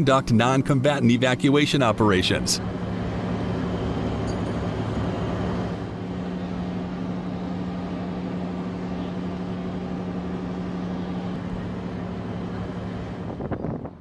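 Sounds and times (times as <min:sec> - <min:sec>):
ship engines humming: 0:00.0 - 0:14.0.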